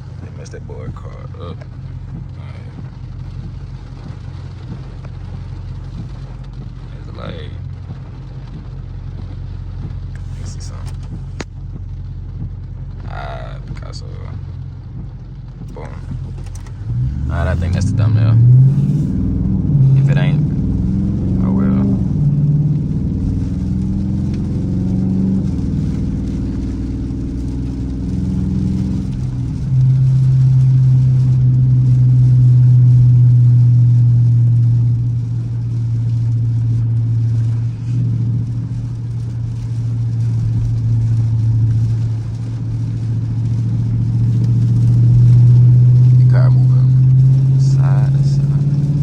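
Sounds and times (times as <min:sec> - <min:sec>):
car engine droning while cruising: 0:00.0 - 0:49.0.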